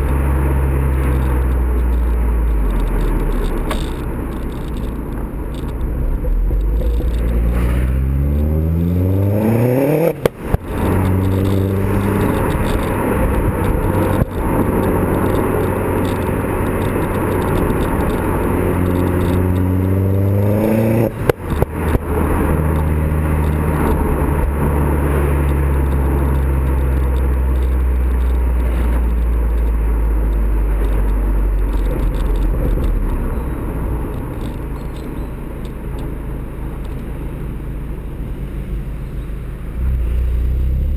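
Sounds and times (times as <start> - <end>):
car engine revving: 0.0 - 35.2, 35.9 - 40.9
exhaust pops: 0.0 - 37.3.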